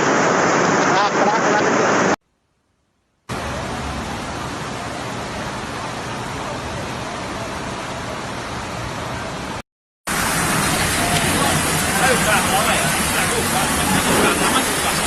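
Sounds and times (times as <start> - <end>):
heavy rain hissing: 0.0 - 2.2, 3.3 - 15.0.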